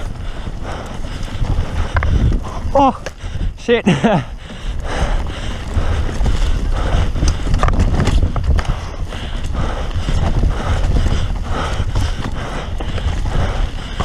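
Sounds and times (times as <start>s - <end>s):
bike rattling over bumps: 0.0s - 14.0s
bike tyre noise on dirt: 0.0s - 14.0s.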